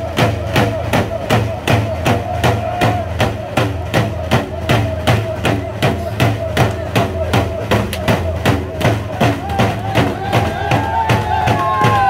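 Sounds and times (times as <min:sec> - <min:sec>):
frame drums beating: 0:00.0 - 0:12.0
sung chant: 0:00.0 - 0:12.0.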